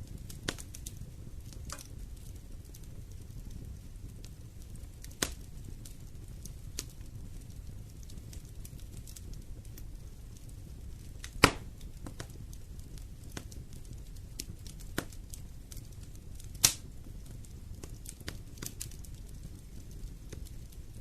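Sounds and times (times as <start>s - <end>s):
fire crackling: 0.0s - 21.0s
fire pops: 0.0s - 21.0s.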